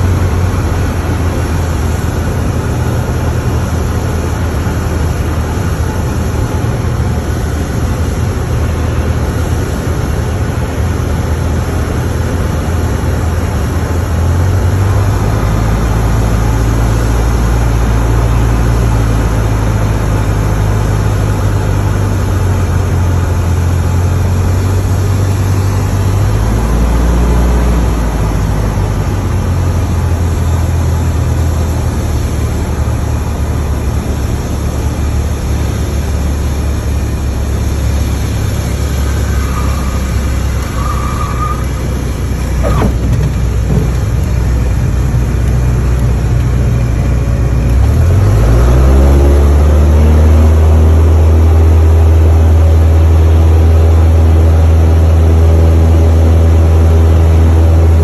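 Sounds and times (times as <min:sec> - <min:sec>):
propeller airplane engine: 0:00.0 - 0:58.0.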